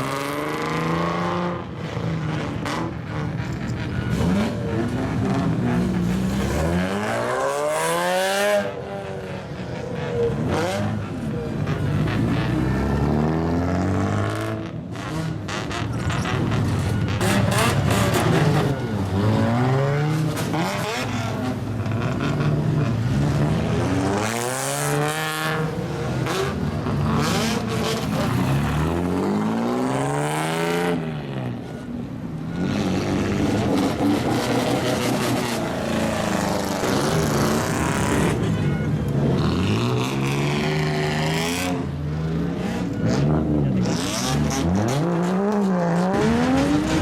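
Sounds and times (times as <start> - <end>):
car engines revving loudly: 0.0 - 47.0.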